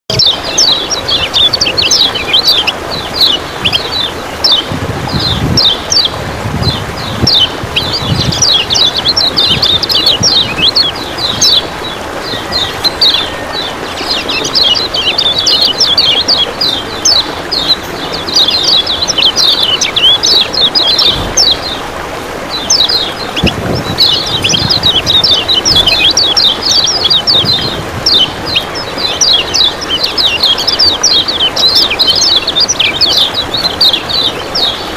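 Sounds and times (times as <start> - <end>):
bird chirping rapidly: 0.1 - 21.9, 22.5 - 34.9
rushing water: 0.1 - 34.9.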